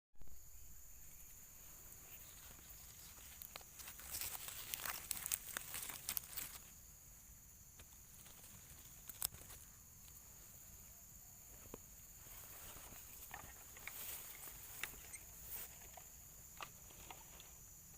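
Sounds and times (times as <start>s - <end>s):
steady high hiss: 0.2s - 17.9s
rustling and crackling: 1.4s - 6.8s, 7.7s - 10.5s, 11.5s - 17.8s.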